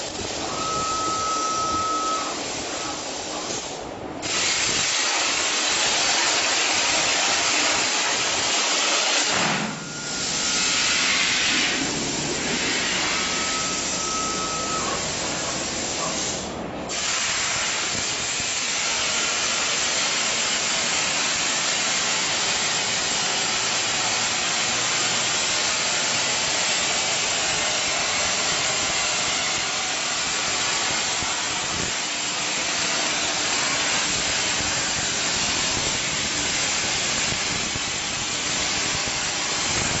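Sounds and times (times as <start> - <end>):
plasma torch hissing: 2.2 - 40.0.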